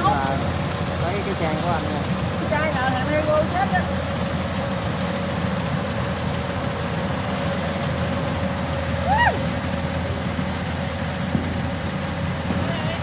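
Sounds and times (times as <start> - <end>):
combine harvester diesel drone: 0.0 - 13.0.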